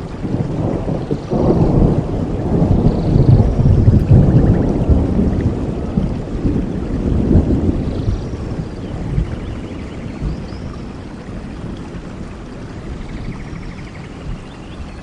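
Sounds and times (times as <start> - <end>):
rolling thunder: 0.0 - 15.0
steady rain: 0.0 - 15.0.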